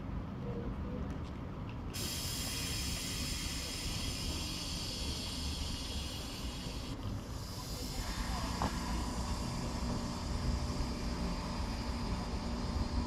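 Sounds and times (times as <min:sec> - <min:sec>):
low steady rumble: 0:00.0 - 0:13.0
compressed air hissing: 0:02.0 - 0:13.0.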